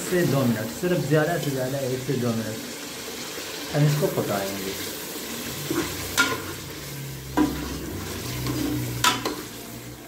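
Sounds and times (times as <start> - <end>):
curry sizzling in a pot: 0.0 - 10.0.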